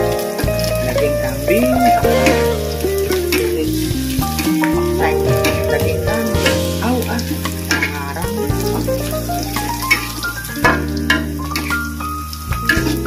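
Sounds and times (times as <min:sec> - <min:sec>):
background music: 0:00.0 - 0:13.0
stir-fry sizzling in a wok: 0:00.0 - 0:13.0.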